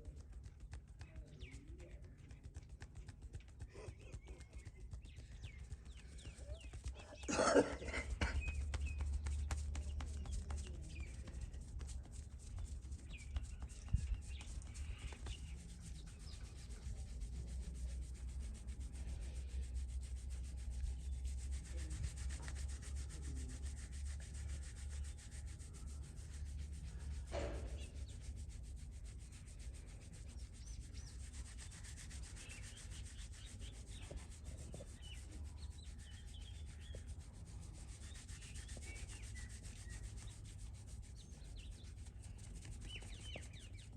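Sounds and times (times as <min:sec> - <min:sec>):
hands rubbing skin and hair: 0:00.0 - 0:43.9.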